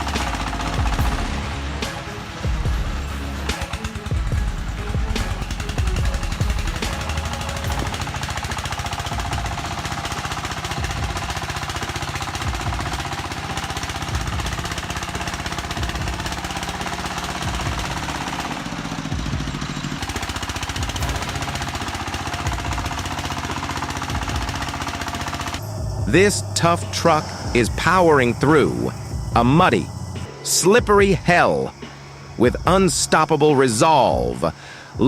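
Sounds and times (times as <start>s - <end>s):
diesel engine clattering under load: 0.0s - 33.2s, 34.1s - 35.0s.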